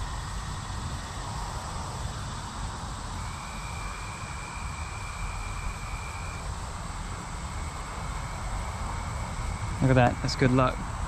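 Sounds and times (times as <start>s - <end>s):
high insect drone: 0.0s - 11.0s
thin steady high tone: 0.0s - 11.0s.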